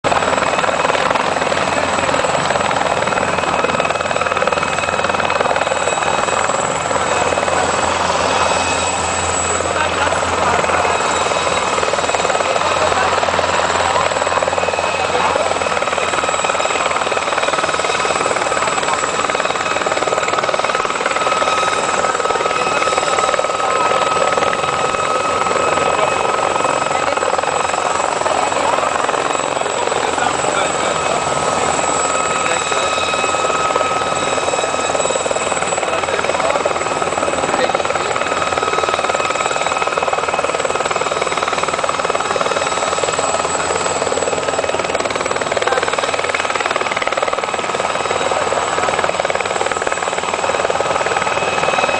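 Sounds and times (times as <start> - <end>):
helicopters running: 0.0 - 51.9.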